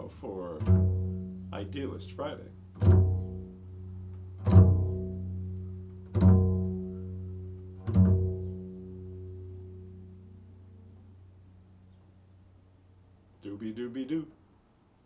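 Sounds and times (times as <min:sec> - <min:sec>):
low ringing instrumental notes: 0:00.0 - 0:13.0.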